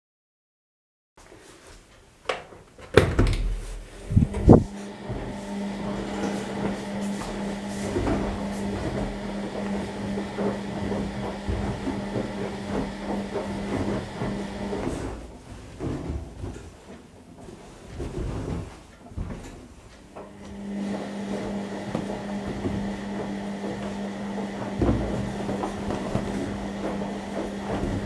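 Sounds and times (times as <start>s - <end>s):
washing machine humming: 2.4s - 28.0s.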